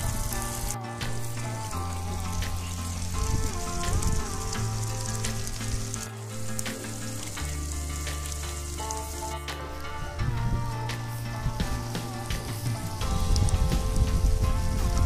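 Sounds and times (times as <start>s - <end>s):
chicken sizzling in a pan: 0.0s - 9.8s, 10.7s - 15.0s
background music with low notes: 0.0s - 15.0s.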